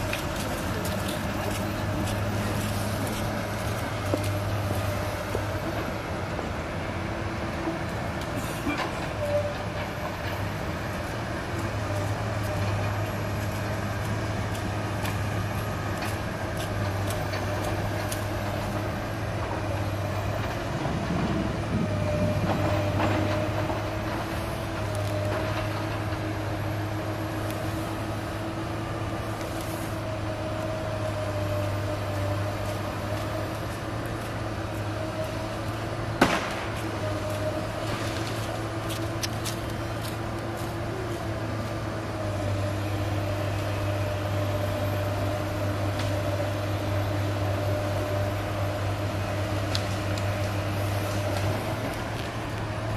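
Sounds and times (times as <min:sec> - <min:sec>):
excavator diesel engine drone: 0:00.0 - 0:52.9.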